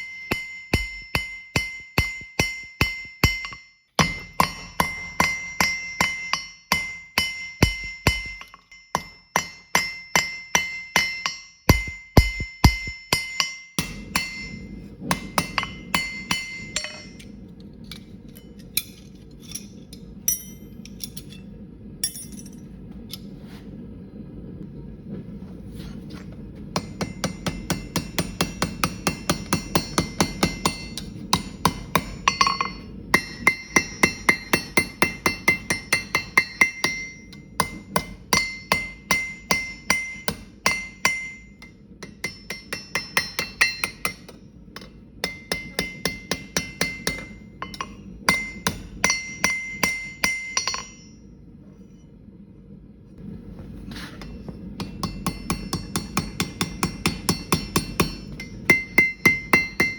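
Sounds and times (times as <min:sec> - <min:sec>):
anvil ringing: 0:00.0 - 0:17.3, 0:18.4 - 0:21.2, 0:22.0 - 0:22.6, 0:26.8 - 0:51.3, 0:54.2 - 0:59.9
hammer striking steel on anvil: 0:00.0 - 0:21.4, 0:22.0 - 0:22.6, 0:26.7 - 0:51.3, 0:54.1 - 0:59.9
low steady hum: 0:00.0 - 0:59.9.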